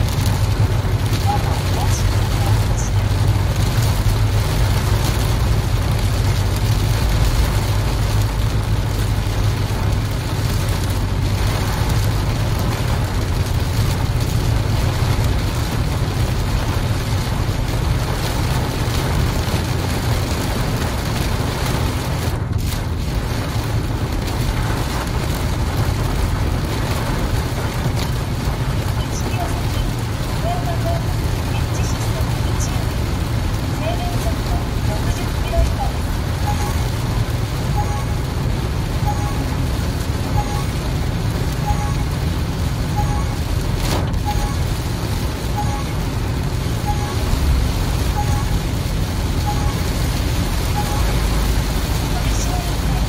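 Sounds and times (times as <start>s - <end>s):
rain beating on car: 0.0s - 53.0s
road and engine rumble: 0.0s - 53.0s
wet tyres on flooded road: 0.0s - 53.0s.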